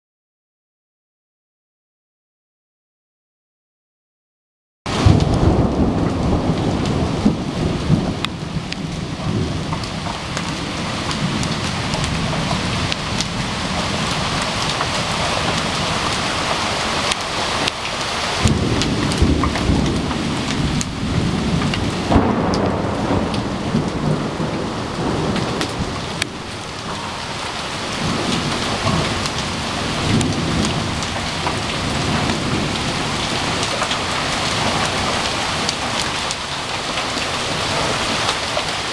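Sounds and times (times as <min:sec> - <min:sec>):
hail and heavy rain roaring: 0:04.9 - 0:38.9
sharp cracks of hailstones: 0:04.9 - 0:38.9.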